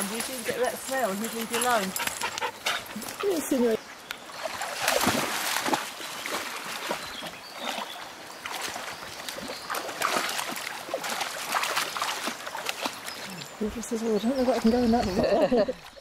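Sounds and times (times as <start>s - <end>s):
dogs splashing through water: 0.0s - 16.0s.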